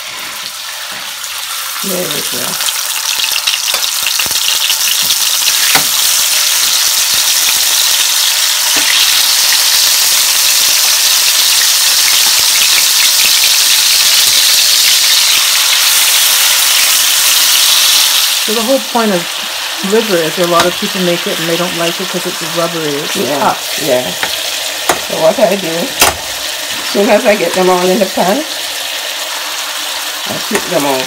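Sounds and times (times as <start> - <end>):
liver sizzling in hot oil: 0.0 - 31.0.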